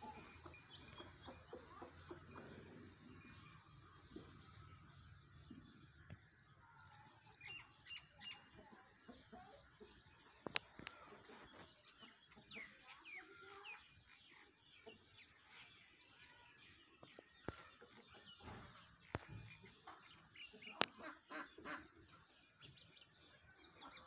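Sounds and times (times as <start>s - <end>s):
chickens chirping and clucking: 0.0s - 24.0s.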